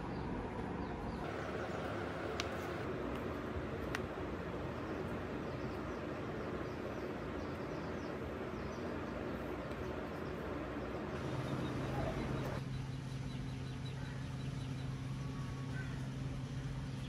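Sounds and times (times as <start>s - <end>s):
low steady hum: 0.0s - 17.0s
steady background noise: 0.0s - 17.0s.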